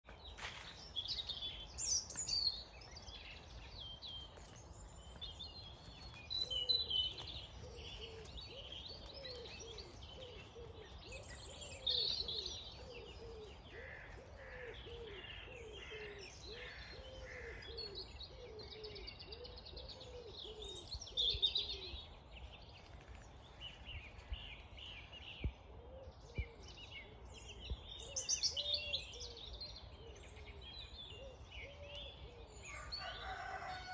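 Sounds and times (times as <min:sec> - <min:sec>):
songbirds singing and chirping: 0:00.0 - 0:33.9.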